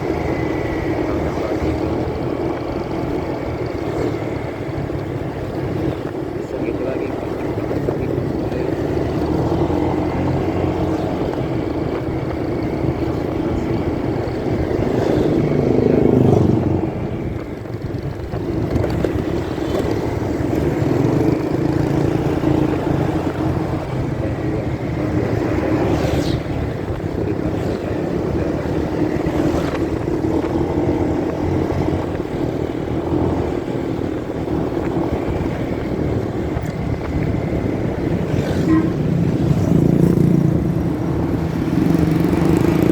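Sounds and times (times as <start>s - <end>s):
motorcycle engine running: 0.0s - 42.9s
road and wind noise: 0.0s - 42.9s.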